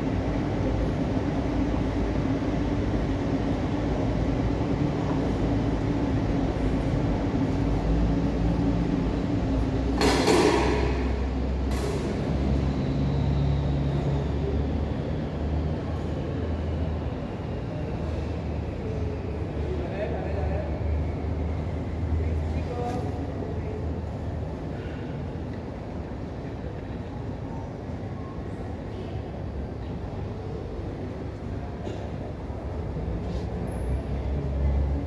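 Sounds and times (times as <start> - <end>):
low machinery rumble and hum: 0.0 - 35.0.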